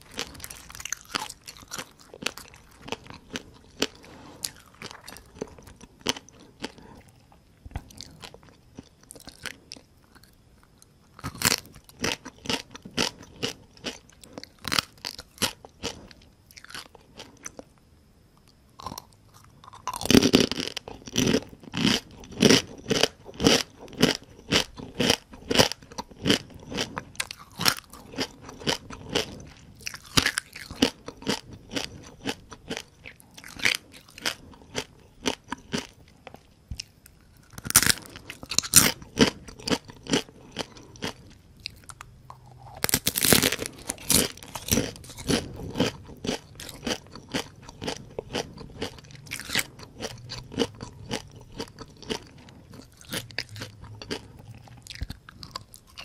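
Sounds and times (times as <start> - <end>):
crab shells crunching: 0.0 - 7.0, 11.2 - 17.6, 18.8 - 56.0.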